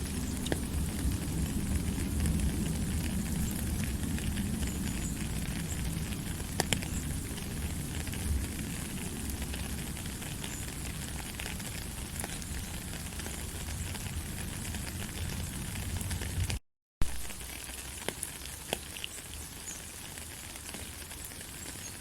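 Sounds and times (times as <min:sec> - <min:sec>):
light rain pattering: 0:00.0 - 0:22.0.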